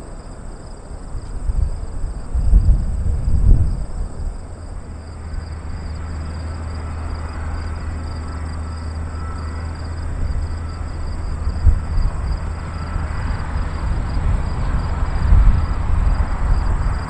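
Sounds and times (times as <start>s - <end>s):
distant jet engine rumble: 0.0s - 17.0s
faint turbine whine: 0.0s - 17.0s.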